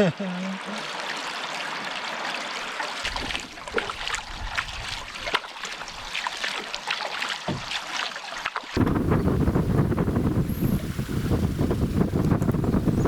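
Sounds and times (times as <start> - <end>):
paddle water splashing: 0.0 - 13.0.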